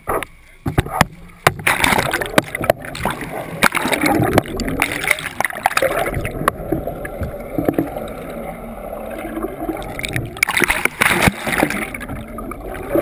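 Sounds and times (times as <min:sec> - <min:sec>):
water gurgling and rushing: 0:00.8 - 0:13.0.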